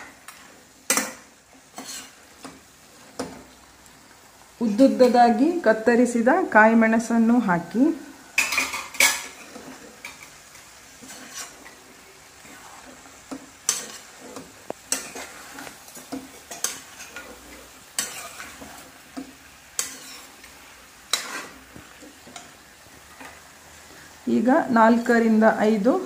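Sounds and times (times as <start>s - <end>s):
spoon stirring and scraping pan: 0.0s - 5.9s, 7.0s - 26.0s
food sizzling in a pan: 0.0s - 26.0s.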